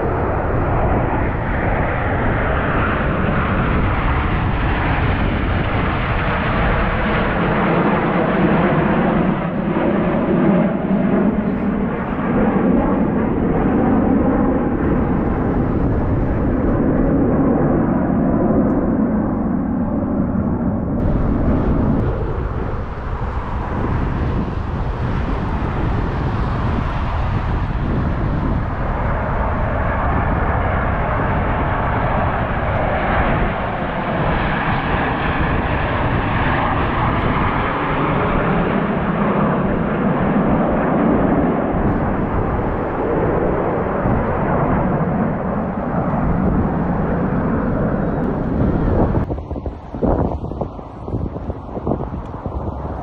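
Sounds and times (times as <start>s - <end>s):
jets flying over: 0.0s - 53.0s.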